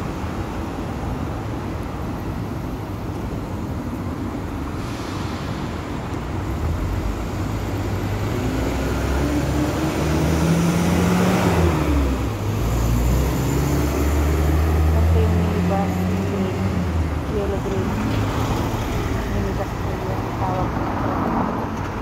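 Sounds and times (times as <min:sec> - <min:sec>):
vehicles driving past: 0:00.0 - 0:22.0.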